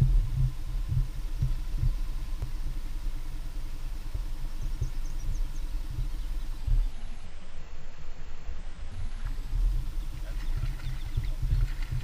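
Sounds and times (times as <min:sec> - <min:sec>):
low thumps: 0:00.0 - 0:12.0.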